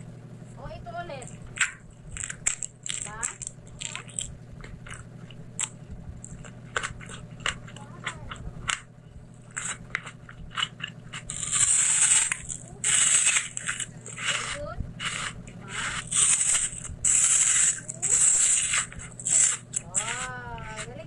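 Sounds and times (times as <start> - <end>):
crunching and chewing food: 1.2 - 21.0.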